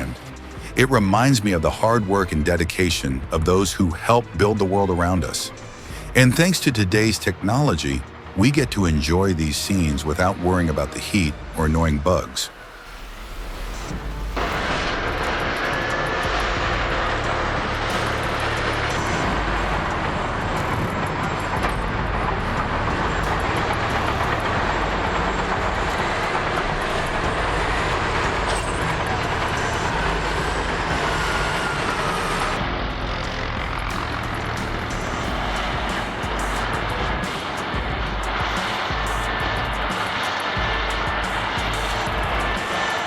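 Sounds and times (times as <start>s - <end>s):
heavy vehicle engine running: 0.0s - 43.0s.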